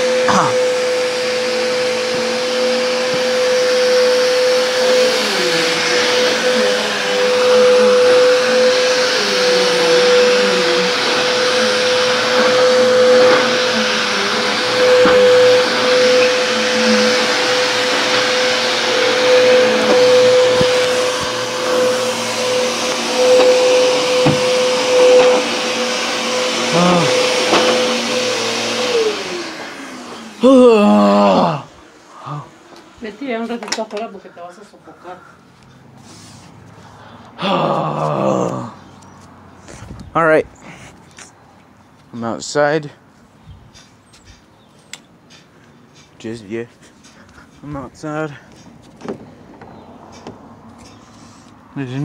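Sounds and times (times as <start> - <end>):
vacuum cleaner running: 0.0 - 41.4, 45.8 - 52.0.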